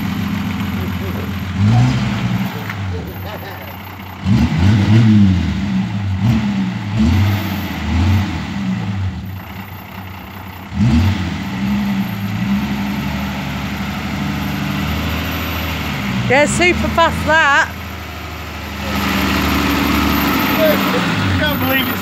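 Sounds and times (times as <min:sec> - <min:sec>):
engine revving in blips: 0:00.0 - 0:10.0, 0:10.7 - 0:22.0.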